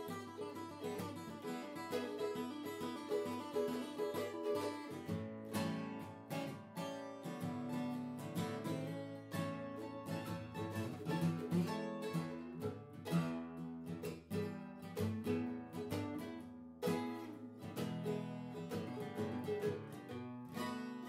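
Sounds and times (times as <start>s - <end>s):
plucked acoustic guitar: 0.0s - 21.0s.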